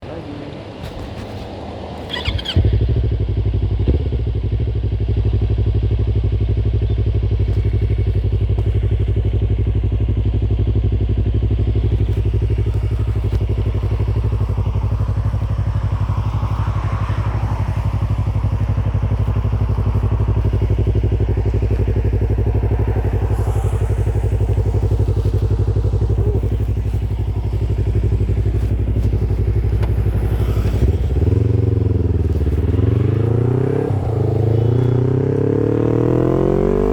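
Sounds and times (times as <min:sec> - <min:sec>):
motorcycle engine idling: 0:00.2 - 0:36.8.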